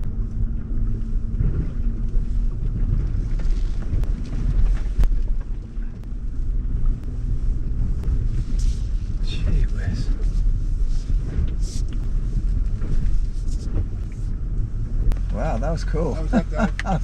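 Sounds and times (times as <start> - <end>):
engine rumble: 0.0 - 17.0
water washing against vehicle: 0.2 - 17.0.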